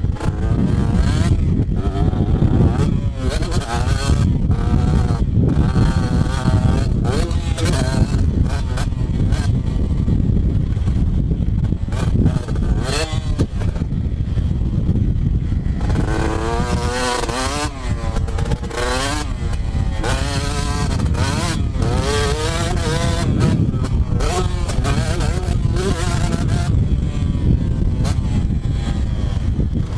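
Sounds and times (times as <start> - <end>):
dirt bike engine revving: 0.0 - 29.9
heavy low rumble: 0.0 - 29.9.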